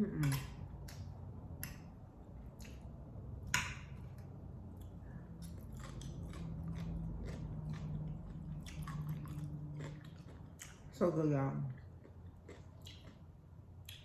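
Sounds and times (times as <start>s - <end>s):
person chewing with wet smacks: 0.1s - 14.0s.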